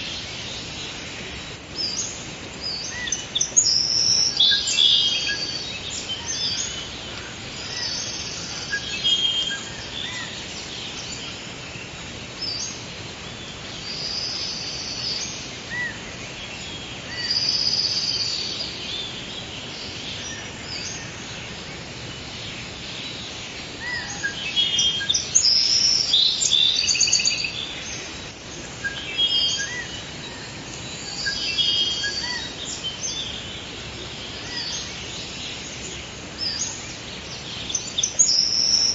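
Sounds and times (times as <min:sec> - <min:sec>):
birds chirping and trilling: 0:00.0 - 0:38.9
steady background hiss: 0:00.0 - 0:38.9.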